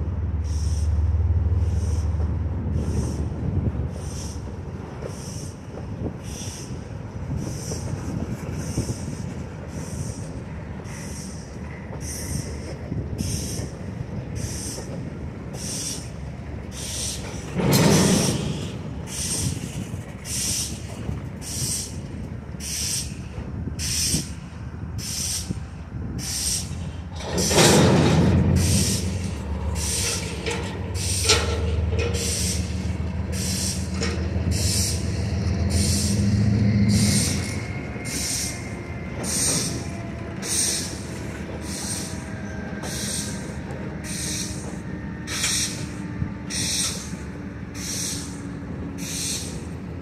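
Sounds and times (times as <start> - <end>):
diesel locomotive engine running: 0.0 - 50.0
train wheels clicking on track: 0.0 - 50.0.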